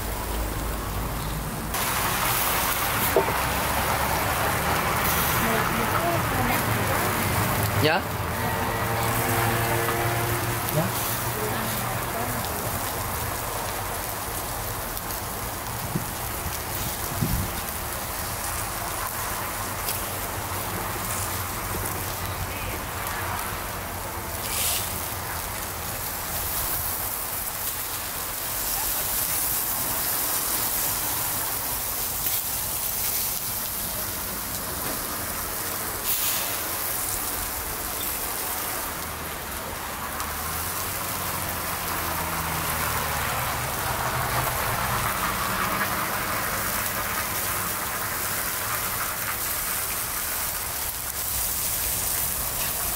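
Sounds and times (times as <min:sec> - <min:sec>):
skewers sizzling on a grill: 0:00.0 - 0:52.9.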